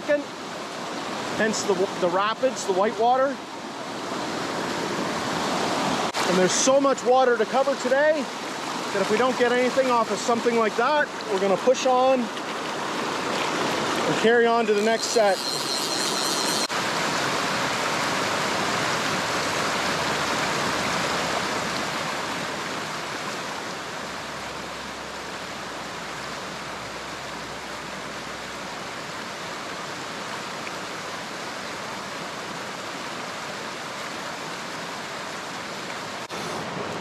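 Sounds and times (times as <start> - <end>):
river rapids rushing: 0.0 - 37.0.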